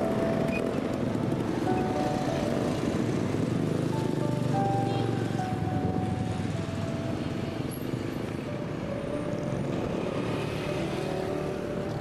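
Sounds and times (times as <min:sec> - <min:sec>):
motorcycles passing: 0:00.0 - 0:12.0
street traffic: 0:00.0 - 0:12.0.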